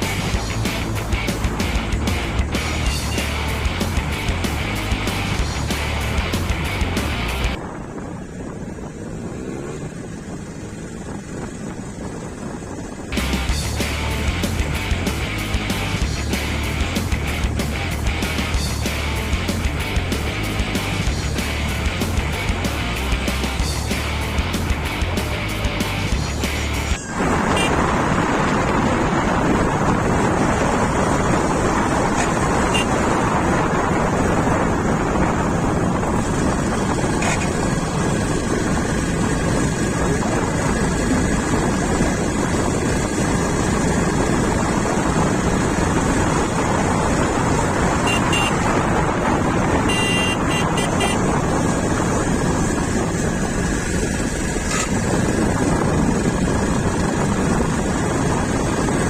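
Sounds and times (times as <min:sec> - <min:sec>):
motorcycle engine: 0:00.0 - 0:59.0
road noise: 0:00.0 - 0:59.0
wind rush on microphone: 0:00.0 - 0:59.0.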